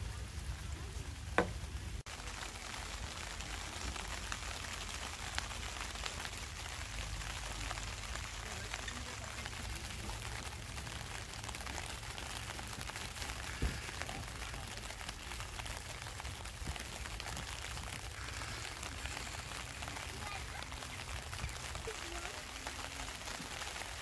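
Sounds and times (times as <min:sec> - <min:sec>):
rain hissing: 0:00.0 - 0:24.0.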